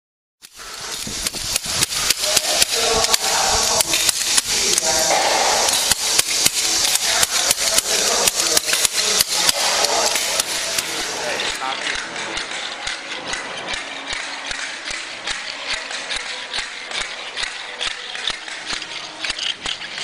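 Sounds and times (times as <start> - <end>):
scraper blade striking concrete: 0.4 - 20.0.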